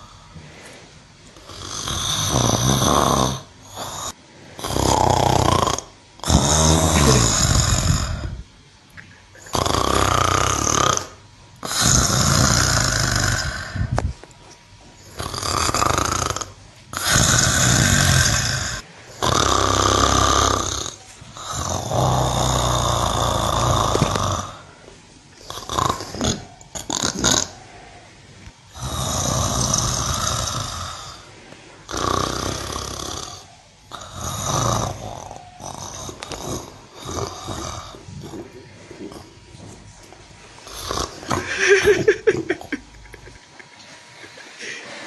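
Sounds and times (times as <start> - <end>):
cow snoring: 1.4 - 8.4, 9.4 - 14.0, 15.0 - 24.8, 25.4 - 28.0, 28.7 - 39.8, 40.6 - 41.6.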